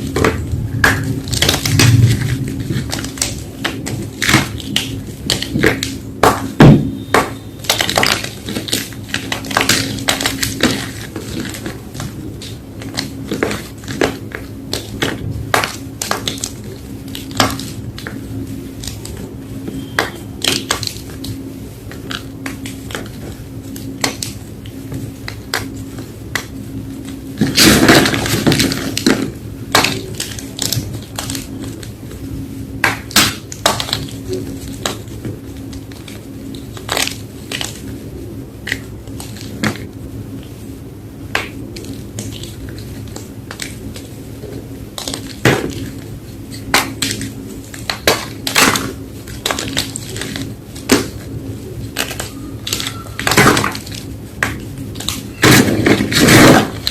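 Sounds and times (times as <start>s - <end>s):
chalk blocks being crushed: 0.0s - 18.2s, 18.8s - 32.2s, 32.8s - 38.0s, 41.3s - 56.9s
steady low hum: 0.0s - 56.9s.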